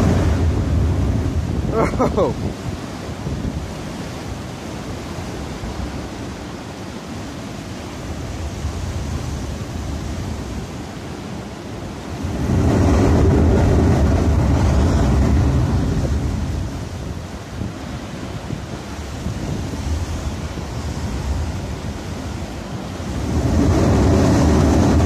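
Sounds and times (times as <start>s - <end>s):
gushing rush of spray: 0.0s - 25.0s
waves rushing through rocks: 0.0s - 25.0s.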